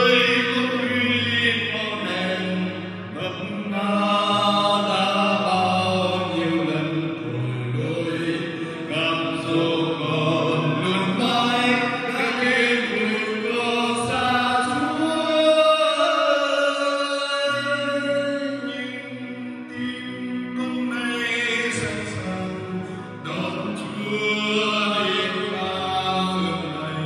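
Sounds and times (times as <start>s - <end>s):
man singing a hymn: 0.0s - 27.0s.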